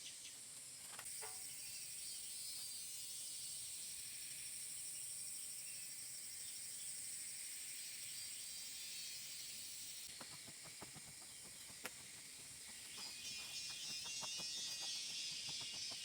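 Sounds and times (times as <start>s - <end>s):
insect chorus trilling: 0.0s - 16.0s.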